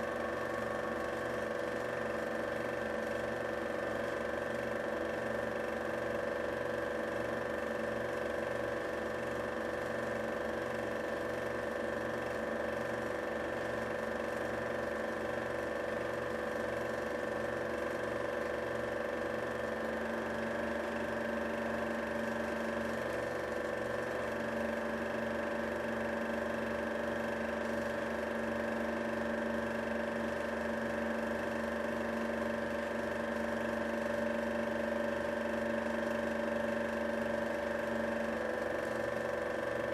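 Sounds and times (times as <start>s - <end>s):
projector motor hum: 0.0s - 39.9s.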